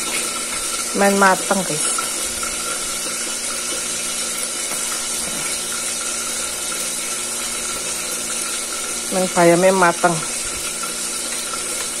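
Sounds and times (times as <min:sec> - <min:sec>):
soup pot hissing on gas stove: 0:00.0 - 0:12.0.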